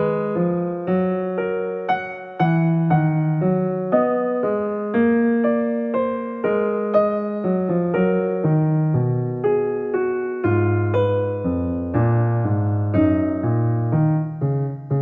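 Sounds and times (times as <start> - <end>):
gentle electric piano melody: 0.0 - 15.0.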